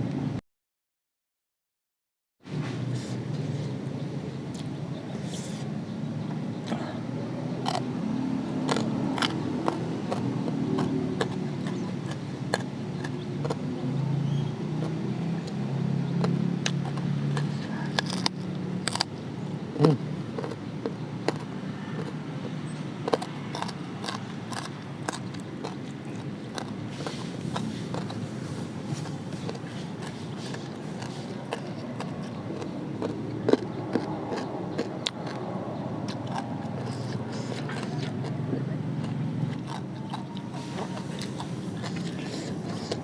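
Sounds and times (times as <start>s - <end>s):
person chewing with mouth clicks: 6.6s - 43.0s.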